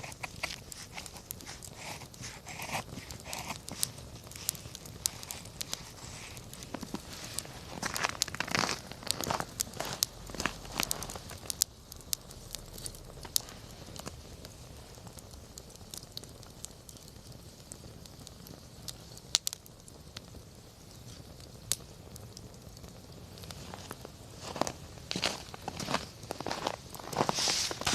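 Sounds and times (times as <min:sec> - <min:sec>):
campfire crackling and popping: 0:00.0 - 0:27.9
low hiss of burning: 0:00.0 - 0:27.9.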